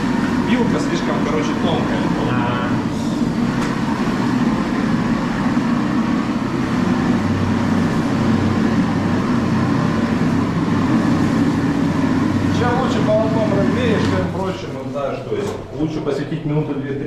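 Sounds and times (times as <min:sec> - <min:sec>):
gas heat gun running: 0:00.0 - 0:14.6.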